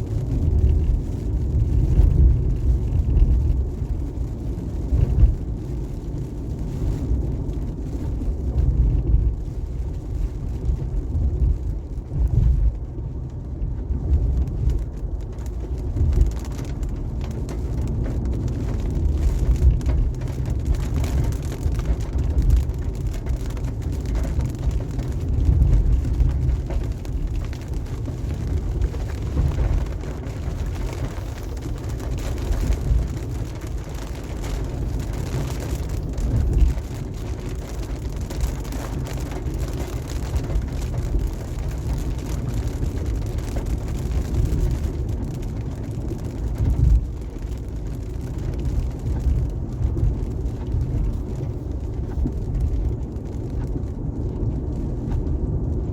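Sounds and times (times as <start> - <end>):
rain and spray hiss: 0.0 - 55.9
tyres rumbling on wet road: 0.0 - 55.9.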